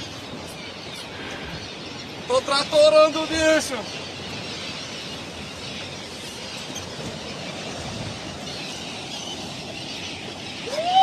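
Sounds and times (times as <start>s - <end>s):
sea noise: 0.0s - 11.0s
wind: 0.0s - 11.0s.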